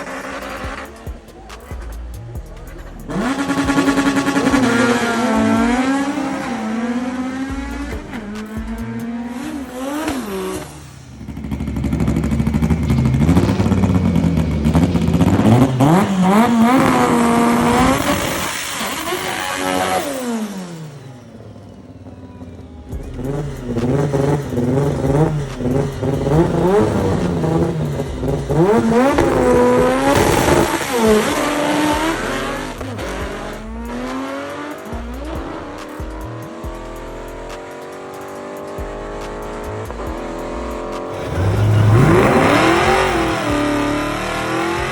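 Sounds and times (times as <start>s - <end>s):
car engines revving hard: 0.0s - 44.9s.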